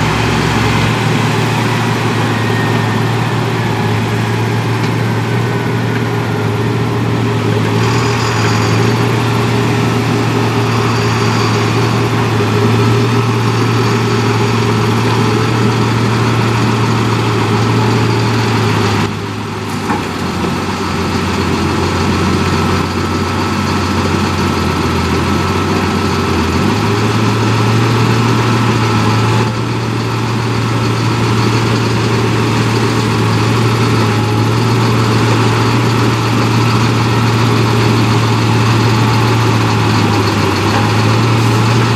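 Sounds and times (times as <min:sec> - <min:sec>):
large machine engine humming: 0:00.0 - 0:41.9.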